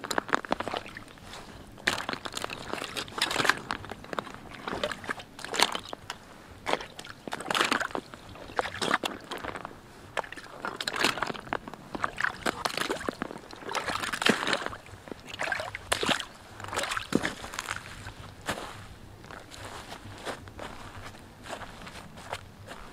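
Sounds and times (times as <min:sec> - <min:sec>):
boots splashing through puddle: 0:00.1 - 0:06.0, 0:06.7 - 0:22.9.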